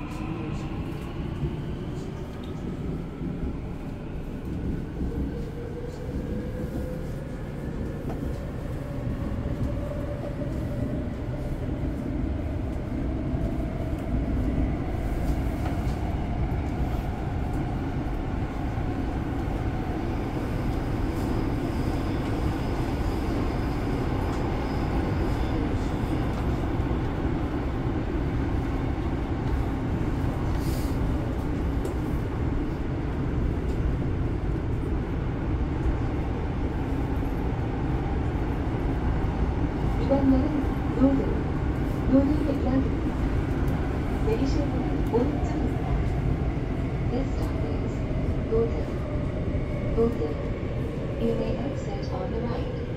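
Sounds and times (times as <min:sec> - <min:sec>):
rumble of train wheels on rail: 0:00.0 - 0:52.9.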